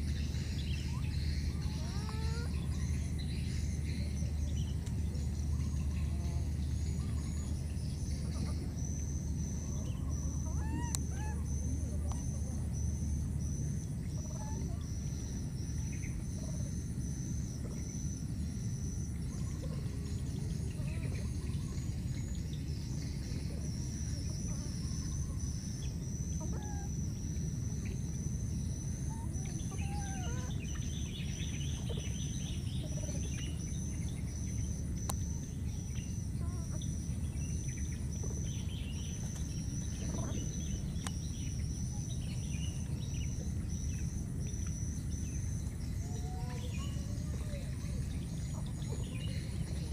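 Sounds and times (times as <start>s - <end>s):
faint chirps and squeaky calls: 0.0s - 49.9s
insects trilling: 0.0s - 49.9s
low steady rumble: 0.0s - 49.9s
steady thin whine: 0.0s - 49.9s.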